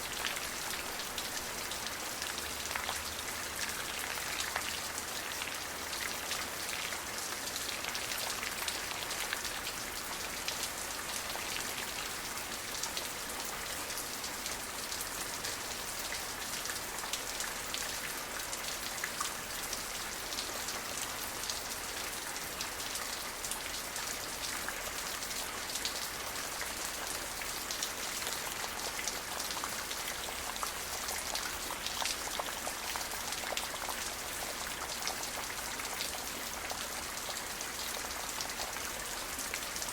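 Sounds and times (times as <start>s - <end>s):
rain drops pattering on a surface: 0.0s - 39.9s.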